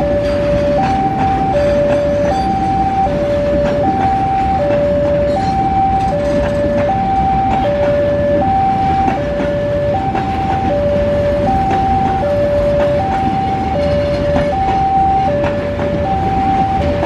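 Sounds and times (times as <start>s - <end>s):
level crossing two-tone alarm: 0.0s - 17.0s
rumble of rail wagons passing: 0.0s - 17.0s.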